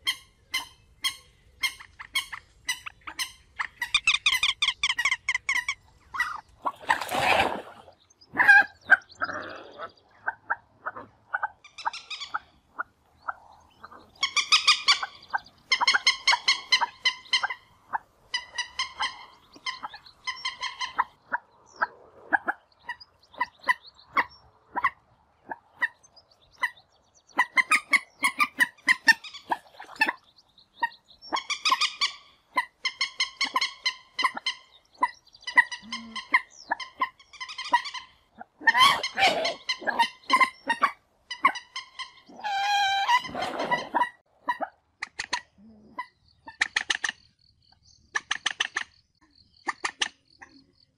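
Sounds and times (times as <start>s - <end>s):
moorhen clucking calls: 0.0s - 50.9s.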